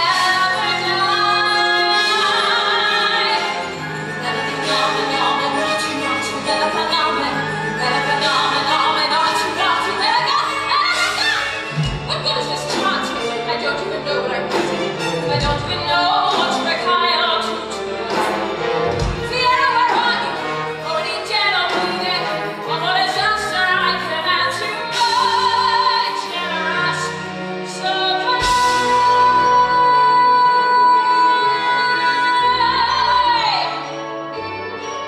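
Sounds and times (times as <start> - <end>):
live orchestra: 0.0 - 35.0.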